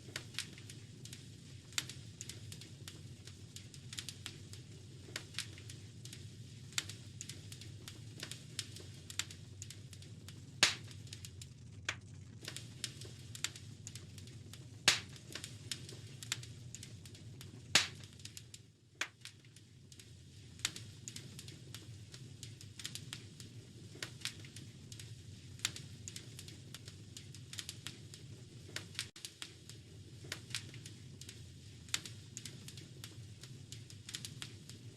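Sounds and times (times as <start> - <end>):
low rumble of burning logs: 0.0 - 34.9
wood fire snaps and pops: 0.0 - 34.9.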